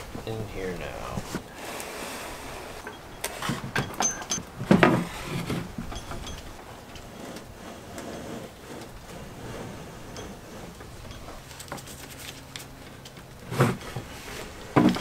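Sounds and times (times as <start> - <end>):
engine scraping across wooden boards: 1.1 - 15.0.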